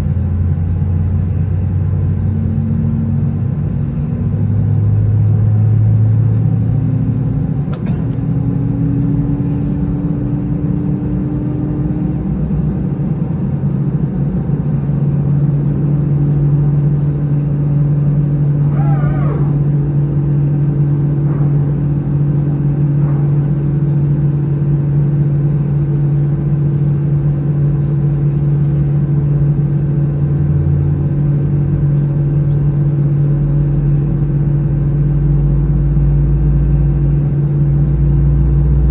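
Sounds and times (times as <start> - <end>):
jet engines droning in cabin: 0.0 - 38.9.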